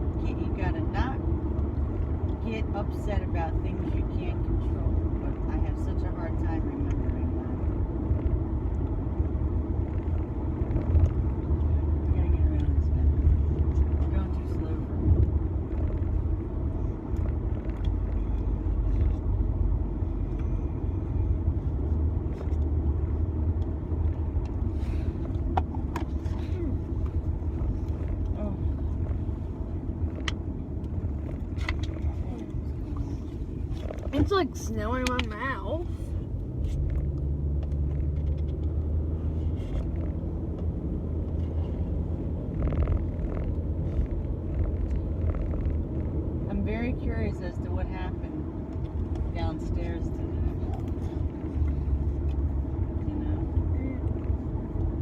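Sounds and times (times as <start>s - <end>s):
car road noise inside cabin: 0.0s - 55.0s.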